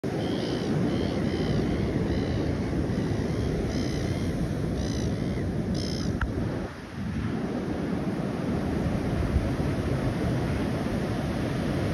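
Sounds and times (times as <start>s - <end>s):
wind on microphone: 0.0s - 11.9s.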